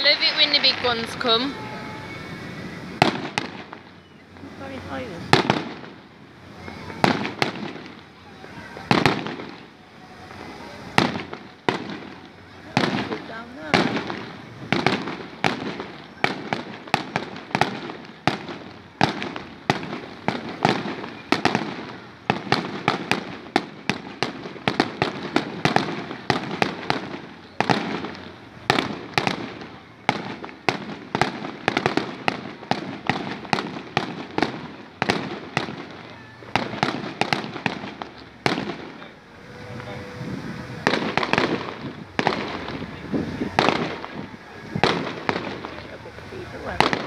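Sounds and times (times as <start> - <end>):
fireworks bursting with echo: 0.0 - 47.0.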